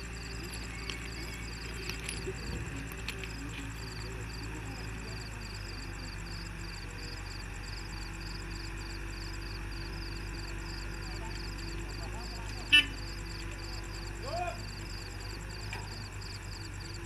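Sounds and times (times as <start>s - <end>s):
crickets chirping: 0.0s - 17.0s
heavy machinery humming: 0.0s - 17.0s.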